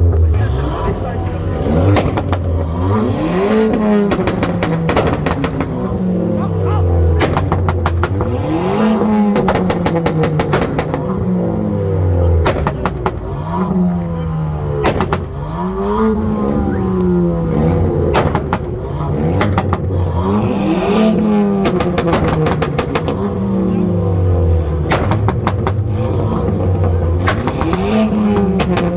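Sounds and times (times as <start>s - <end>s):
exhaust crackles and pops: 0.0s - 16.2s, 16.9s - 23.8s, 24.4s - 28.9s
car engines revving: 0.0s - 28.9s.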